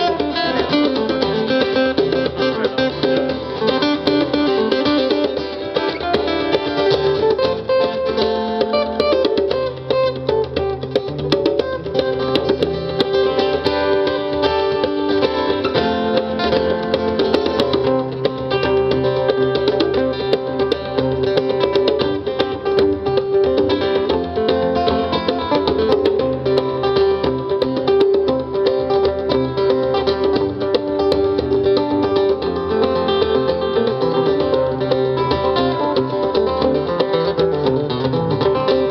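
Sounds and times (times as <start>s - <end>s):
acoustic guitar picking: 0.0s - 38.9s
djembe hand drum: 0.0s - 38.9s.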